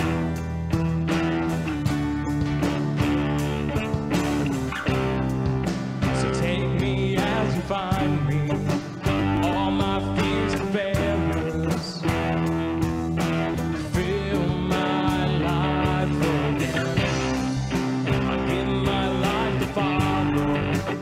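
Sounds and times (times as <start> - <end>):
worship band with guitar: 0.0 - 21.0.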